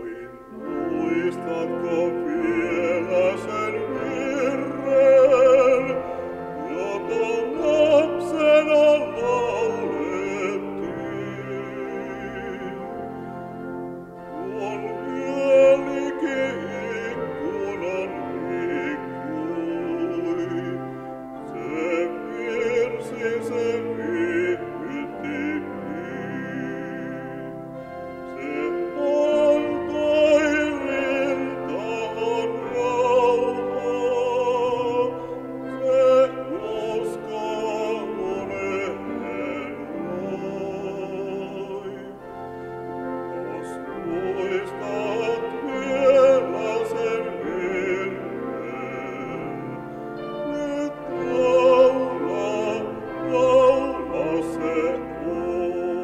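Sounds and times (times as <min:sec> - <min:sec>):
grand piano: 0:00.0 - 0:56.0
man singing with vibrato: 0:00.0 - 0:56.0
pipe organ: 0:00.0 - 0:56.0.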